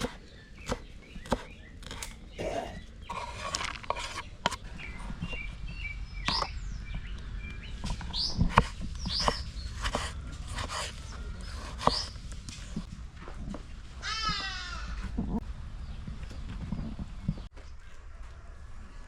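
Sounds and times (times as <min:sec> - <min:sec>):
small birds chirping: 0:00.0 - 0:12.9, 0:14.2 - 0:17.9.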